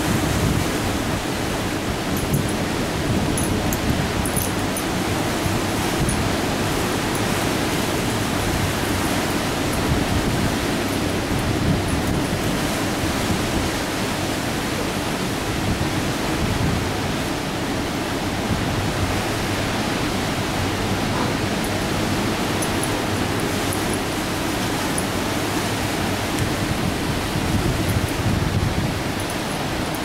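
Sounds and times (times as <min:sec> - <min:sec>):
heavy surf: 0:00.0 - 0:30.0
strong wind: 0:00.0 - 0:30.0.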